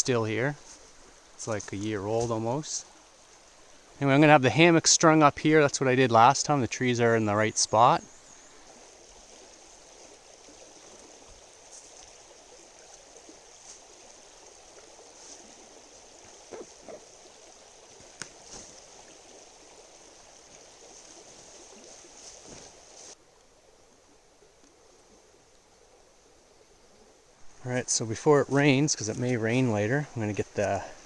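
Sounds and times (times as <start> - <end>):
river flowing: 0.0 - 31.0.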